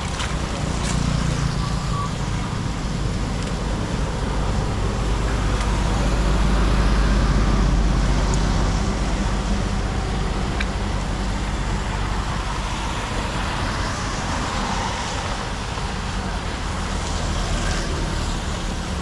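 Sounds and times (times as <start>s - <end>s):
rushing noise: 0.0s - 19.0s.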